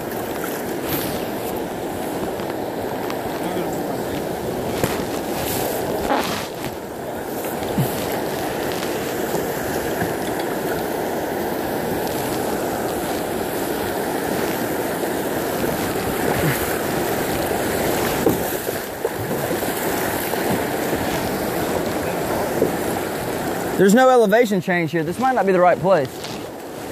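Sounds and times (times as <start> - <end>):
river water rushing over riffles: 0.0 - 26.9.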